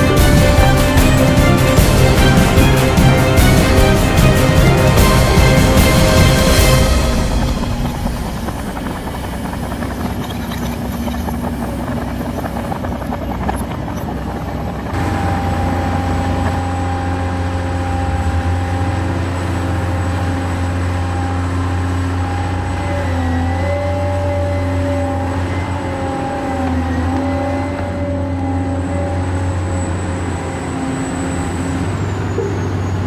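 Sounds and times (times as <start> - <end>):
model excavator motor whining: 0.0 - 33.0.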